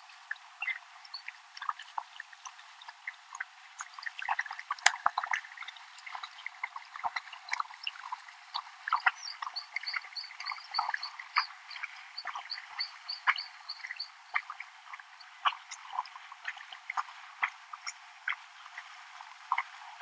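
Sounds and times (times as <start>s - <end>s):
animal splashing through water: 1.2s - 20.0s.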